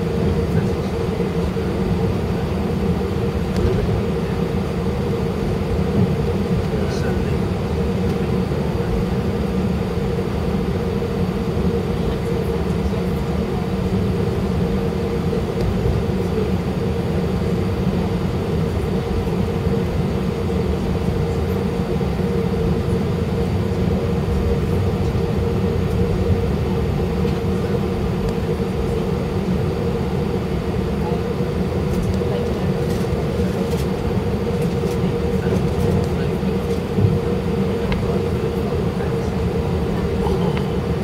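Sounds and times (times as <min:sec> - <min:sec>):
jet engines humming in cabin: 0:00.0 - 0:41.0.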